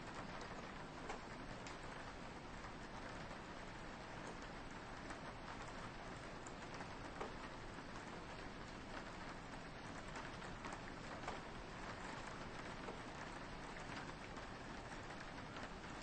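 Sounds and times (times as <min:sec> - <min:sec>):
rain on a window: 0:00.0 - 0:16.0
raindrop ticks: 0:00.1 - 0:16.0.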